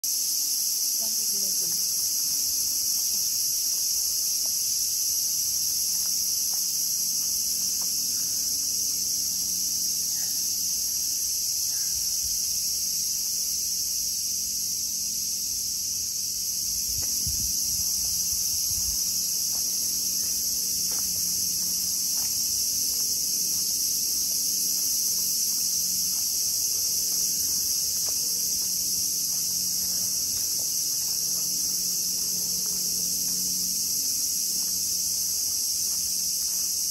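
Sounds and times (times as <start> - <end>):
high-pitched insect chorus: 0.0 - 36.9.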